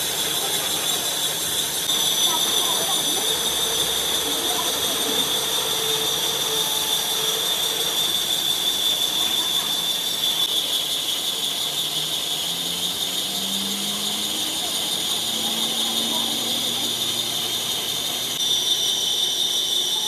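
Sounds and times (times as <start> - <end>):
hiss of metal cutting: 0.0 - 20.0
lathe cutting tool squealing: 0.0 - 20.0.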